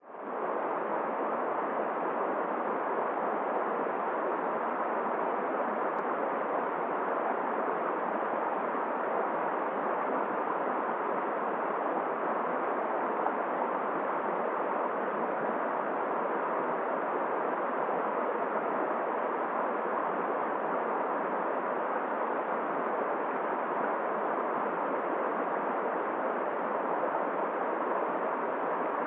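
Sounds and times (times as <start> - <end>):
blizzard wind: 0.0 - 29.0.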